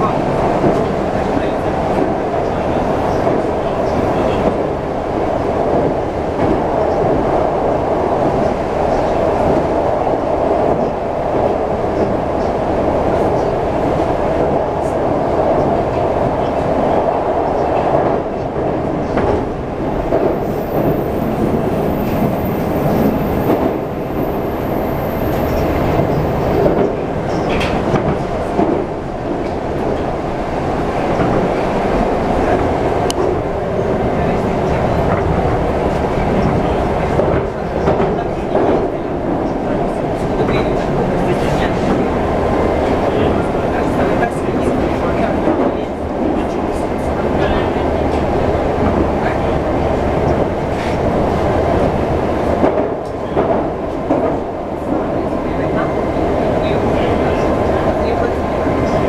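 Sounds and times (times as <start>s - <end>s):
train wheels rumbling: 0.0s - 59.0s.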